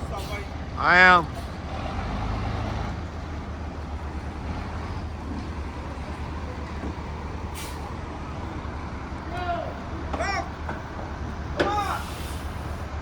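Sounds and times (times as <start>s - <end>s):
low engine rumble: 0.0s - 13.0s
street traffic: 0.0s - 13.0s.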